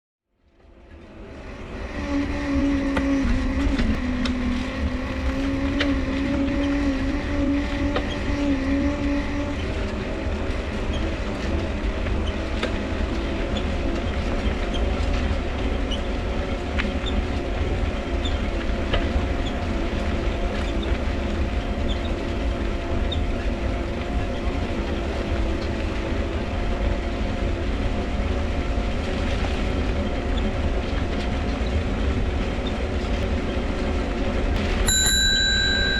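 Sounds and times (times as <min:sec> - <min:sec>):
low rolling rumble: 0:00.4 - 0:35.9
bicycle dynamo whirring: 0:00.8 - 0:35.9.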